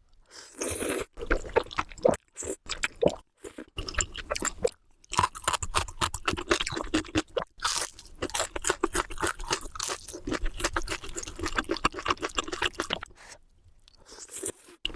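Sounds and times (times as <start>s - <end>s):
crunching and chewing crisp snack: 0.4s - 13.2s.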